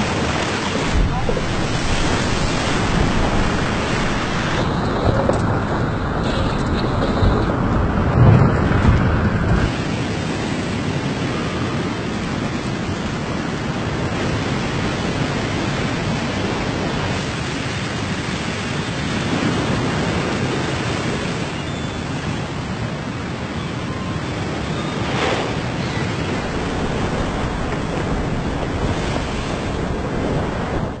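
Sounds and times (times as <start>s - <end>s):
rushing water: 0.0s - 31.0s
storm wind: 0.0s - 31.0s.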